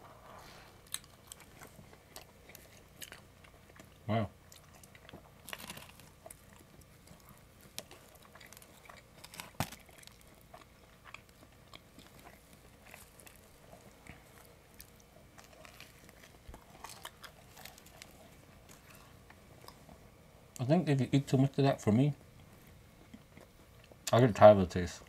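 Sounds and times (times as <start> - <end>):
people chewing pizza: 0.0 - 25.0.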